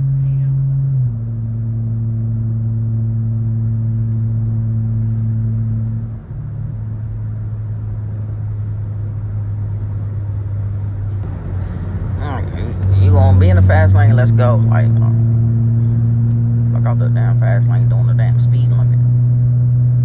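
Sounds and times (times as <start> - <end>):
car engine droning: 0.0 - 20.0
road noise: 0.0 - 20.0.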